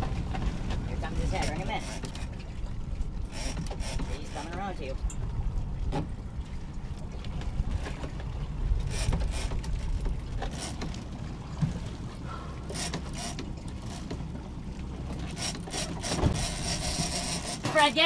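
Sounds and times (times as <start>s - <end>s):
boat engine rumble: 0.0s - 18.0s
water splashes: 0.0s - 18.0s.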